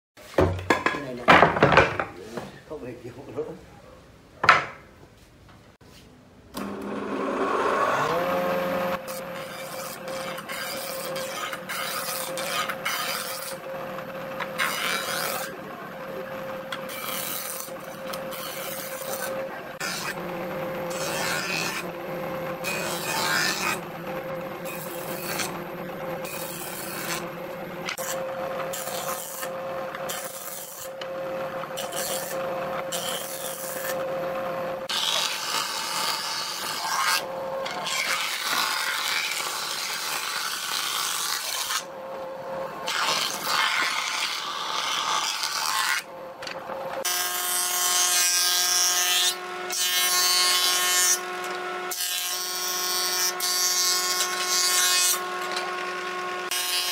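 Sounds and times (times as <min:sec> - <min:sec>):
electric power tool on wood: 0:06.5 - 0:56.9.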